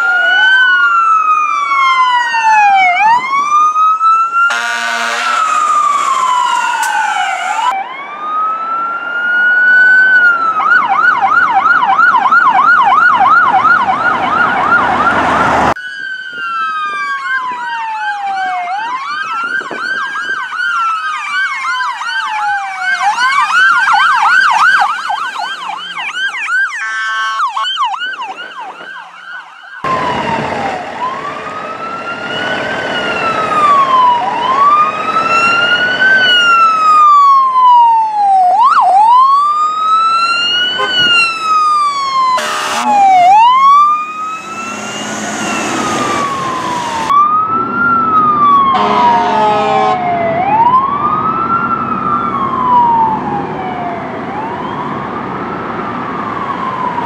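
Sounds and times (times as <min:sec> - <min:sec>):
siren warbling fast: 0:00.0 - 0:20.9, 0:21.5 - 0:51.2
pulsing siren sound: 0:00.0 - 0:57.0
siren wailing: 0:00.0 - 0:57.0.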